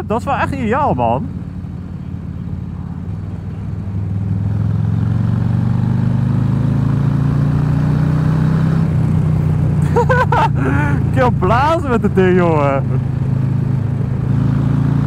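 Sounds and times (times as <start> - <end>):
motorcycle engine accelerating: 0.6 - 15.0.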